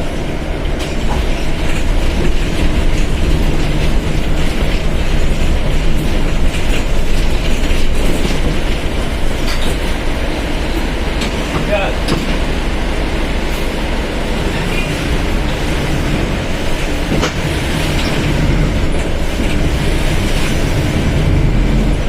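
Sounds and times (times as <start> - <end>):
bus body rattling clicks: 0.0 - 12.5, 14.6 - 22.0
bus diesel engine running: 0.0 - 22.0
road noise: 0.0 - 22.0.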